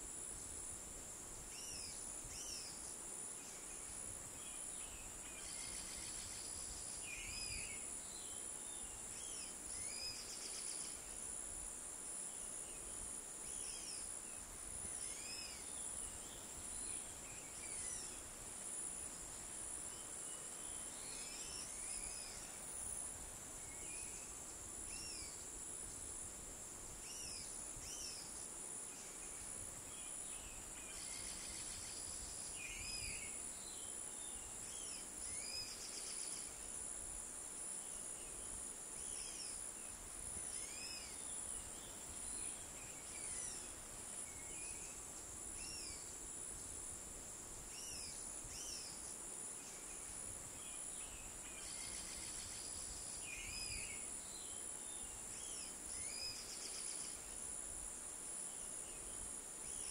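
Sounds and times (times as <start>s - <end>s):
crickets and cicadas droning: 0.0s - 59.9s
light wind: 0.0s - 59.9s.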